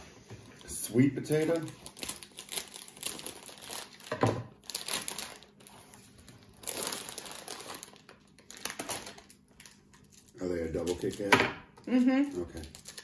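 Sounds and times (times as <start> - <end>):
plastic bag crinkling: 0.6 - 11.3, 11.9 - 13.0.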